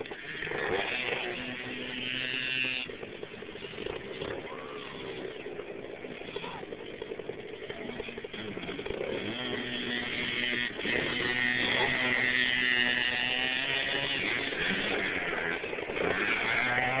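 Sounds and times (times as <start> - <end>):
small motorbike engine buzzing: 0.0 - 17.0.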